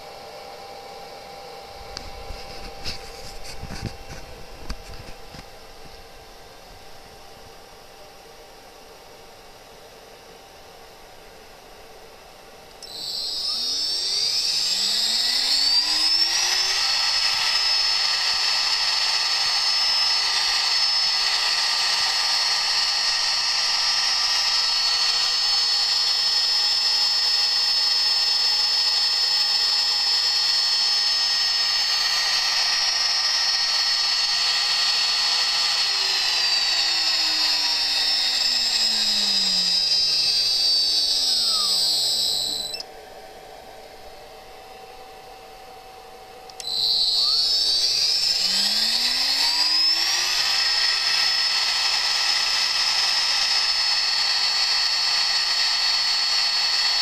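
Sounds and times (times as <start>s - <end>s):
spindle motor whine: 0.0s - 57.0s.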